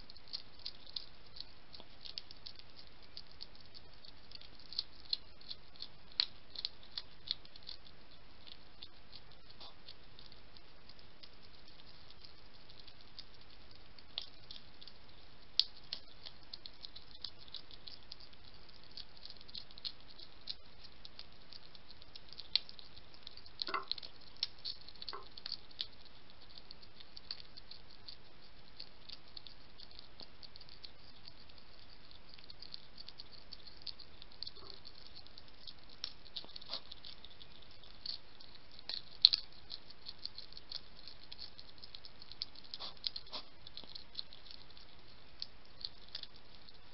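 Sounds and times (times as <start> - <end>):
hedgehogs crunching food pellets: 0.0 - 46.9.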